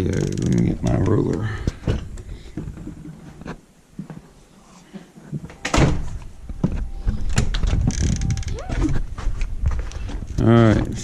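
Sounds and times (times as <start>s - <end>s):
rustling and knocking: 1.7s - 11.0s.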